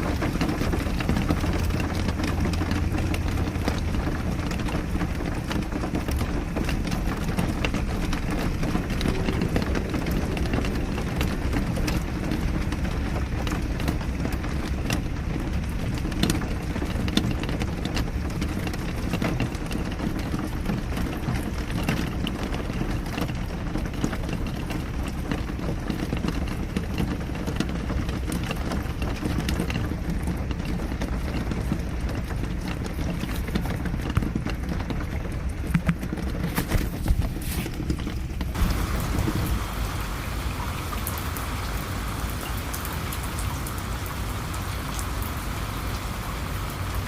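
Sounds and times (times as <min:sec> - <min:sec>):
raindrops tapping close by: 0:00.0 - 0:47.0
steady rain falling: 0:00.0 - 0:47.0.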